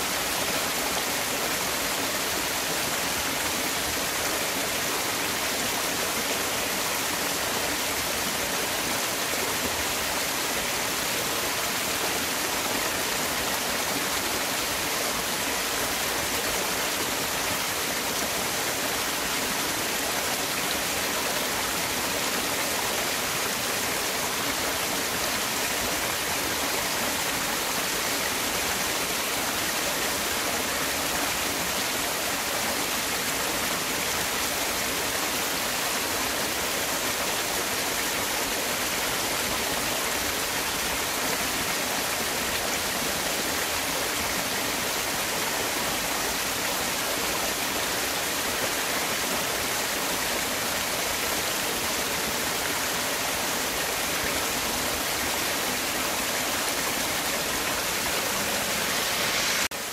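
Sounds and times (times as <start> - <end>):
stream rushing: 0.0 - 59.9.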